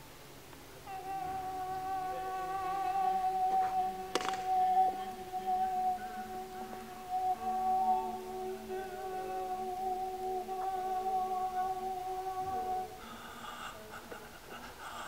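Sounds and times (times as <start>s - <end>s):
voices humming long tones: 0.0s - 15.0s.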